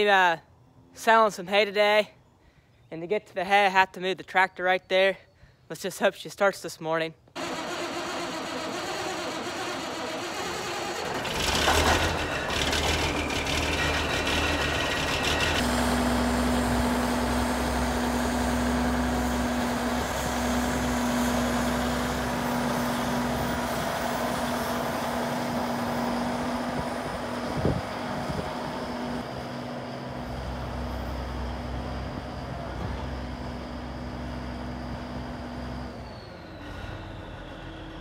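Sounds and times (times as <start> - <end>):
tractor diesel engine drone: 7.4 - 38.0.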